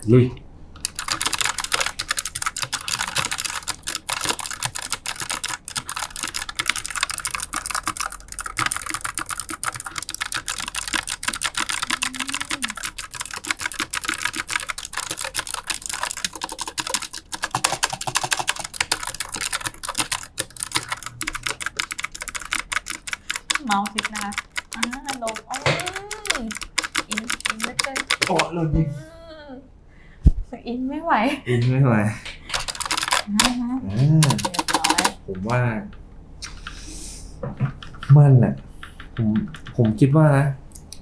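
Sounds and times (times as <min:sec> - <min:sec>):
clicky mechanical keyboard typing: 0:00.8 - 0:28.5, 0:32.5 - 0:35.6, 0:36.4 - 0:36.9, 0:37.5 - 0:40.2.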